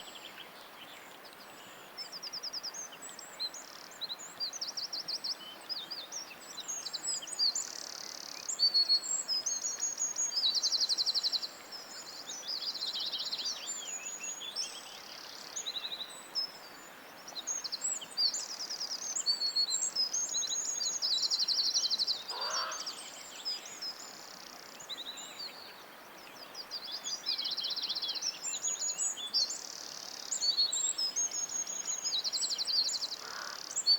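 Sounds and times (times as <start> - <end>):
soft forest background hiss: 0.0 - 33.9
songbirds singing: 0.0 - 33.9.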